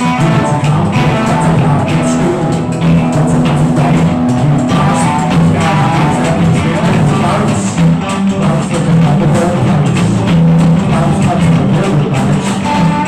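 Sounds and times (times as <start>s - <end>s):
bass notes: 0.0s - 13.0s
drum kit playing: 0.0s - 13.0s
electric guitar: 0.0s - 13.0s.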